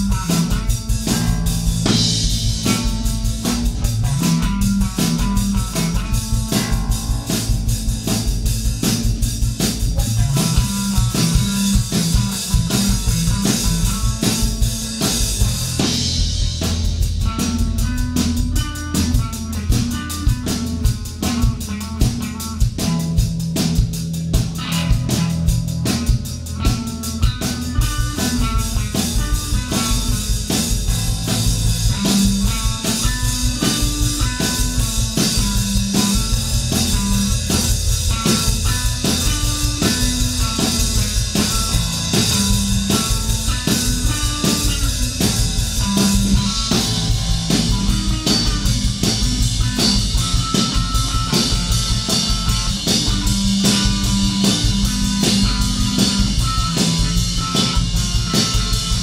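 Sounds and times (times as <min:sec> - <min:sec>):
dense drumming: 0:00.0 - 0:59.0
electric bass runs: 0:00.0 - 0:59.0.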